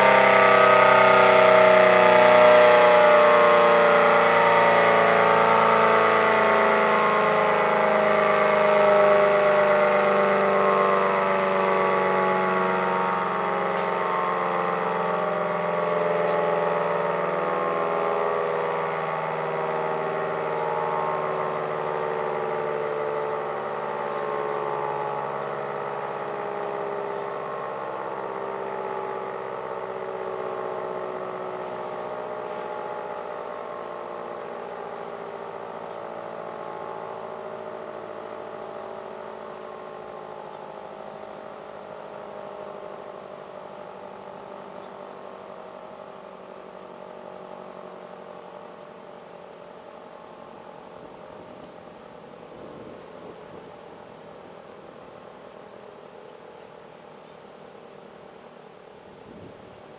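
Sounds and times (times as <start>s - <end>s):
warning siren winding down: 0.0s - 57.1s.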